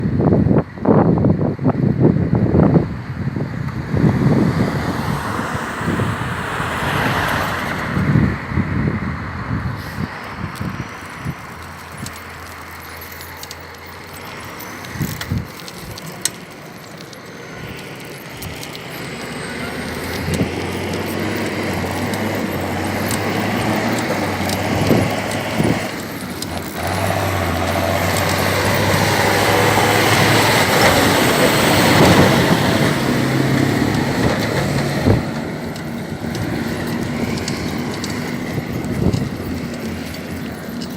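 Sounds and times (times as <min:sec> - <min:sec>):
tractor diesel engine running: 0:00.1 - 0:40.9.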